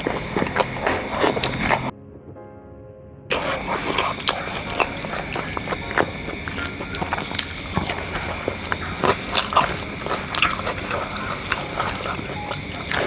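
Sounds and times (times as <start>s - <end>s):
clicks and crunches: 0.0s - 1.9s, 3.3s - 13.0s
person chewing and biting: 0.0s - 1.9s, 3.3s - 13.0s.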